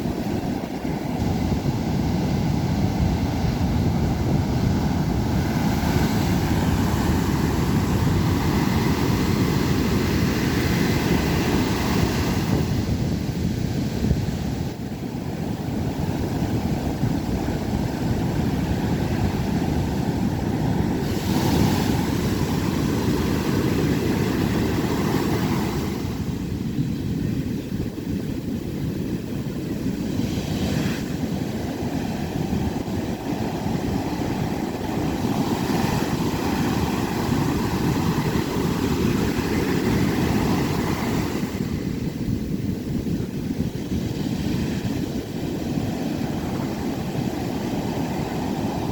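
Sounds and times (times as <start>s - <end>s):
surf waves crashing: 0.0s - 27.5s, 28.4s - 48.9s
wind rumbling on microphone: 0.0s - 48.9s.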